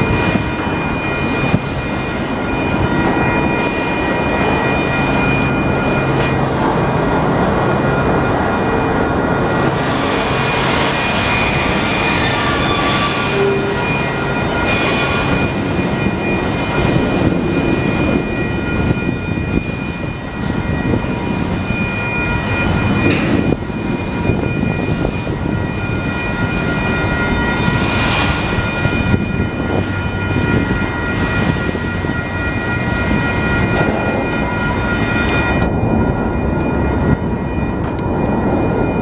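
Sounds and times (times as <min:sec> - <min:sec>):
high-pitched whine: 0:00.0 - 0:39.0
train cars clanking: 0:00.0 - 0:39.0
train wheels rumbling on rails: 0:00.0 - 0:39.0.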